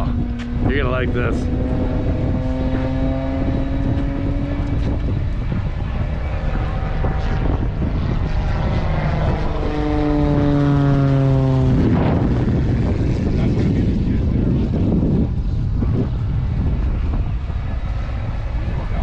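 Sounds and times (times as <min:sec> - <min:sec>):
low rumble: 0:00.0 - 0:19.0
propeller plane droning past: 0:00.0 - 0:19.0.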